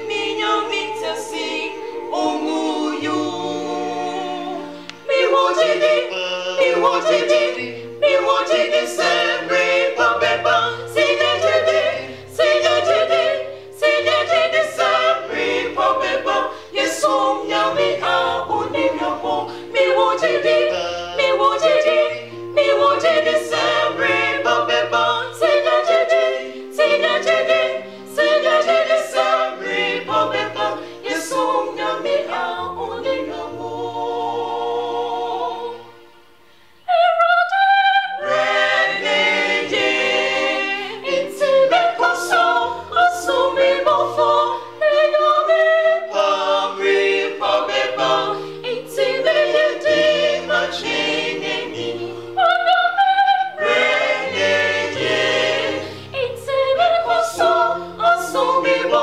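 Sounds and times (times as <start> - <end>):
vocal quartet singing in harmony: 0.0 - 59.0.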